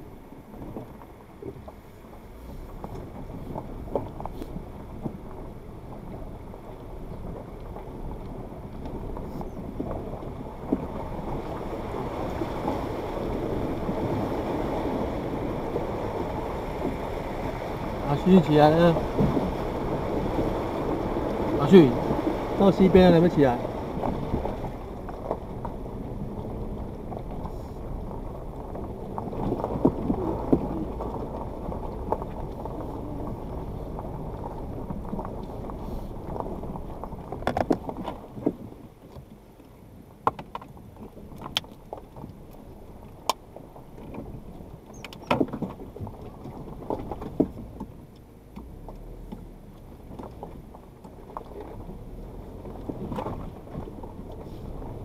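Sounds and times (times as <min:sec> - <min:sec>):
vehicle engine crawling: 0:00.0 - 0:38.8, 0:41.1 - 0:55.0.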